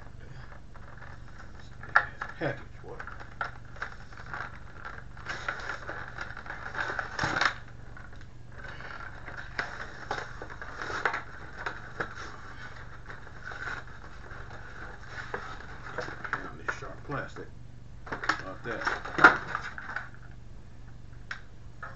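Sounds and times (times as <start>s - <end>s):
plastic packaging crackling and tearing: 0.7s - 17.4s, 18.0s - 20.3s.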